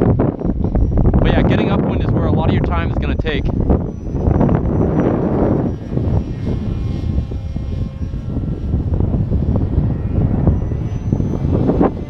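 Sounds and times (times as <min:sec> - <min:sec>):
model jet propeller buzzing: 0:00.0 - 0:12.0
wind buffeting microphone: 0:00.0 - 0:12.0.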